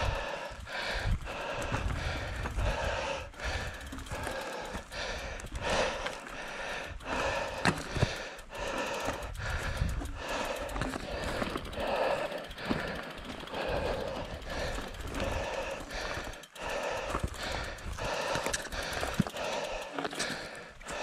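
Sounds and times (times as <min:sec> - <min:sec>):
bike frame rattling: 0:00.0 - 0:21.0.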